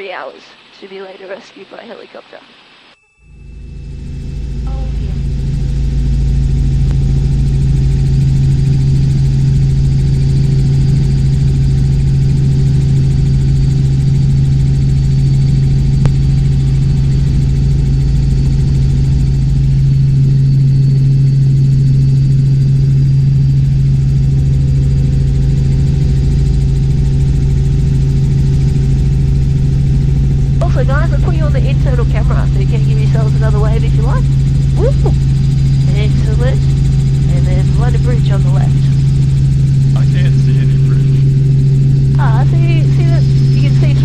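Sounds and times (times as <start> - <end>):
helicopter engine and rotors droning: 0.0 - 2.4, 3.2 - 44.0.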